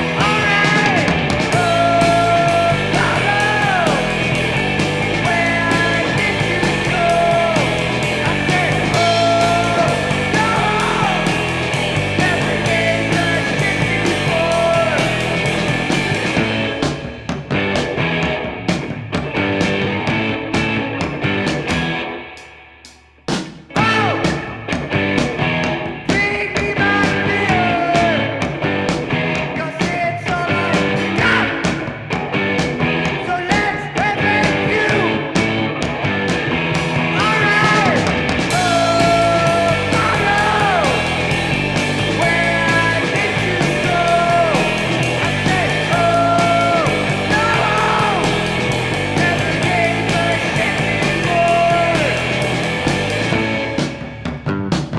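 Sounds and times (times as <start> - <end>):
rock music with guitar and drums: 0.0 - 54.9.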